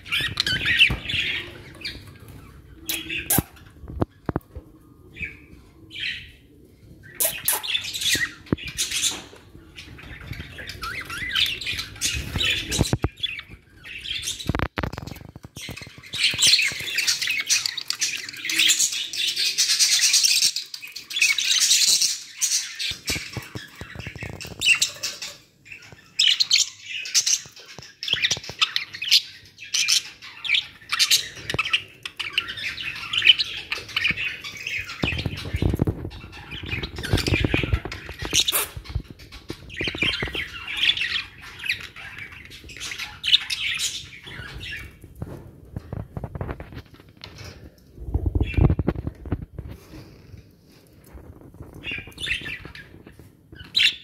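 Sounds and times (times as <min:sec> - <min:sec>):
budgerigars chattering and chirping: 0:00.0 - 0:03.8, 0:07.1 - 0:45.0, 0:51.8 - 0:54.0.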